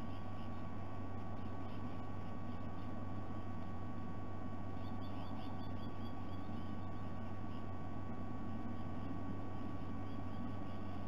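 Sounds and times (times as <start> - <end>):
low electrical hum and hiss: 0.0 - 11.0.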